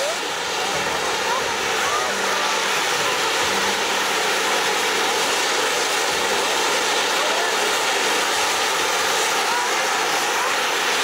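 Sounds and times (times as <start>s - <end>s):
firework fountains hissing: 0.0s - 11.0s.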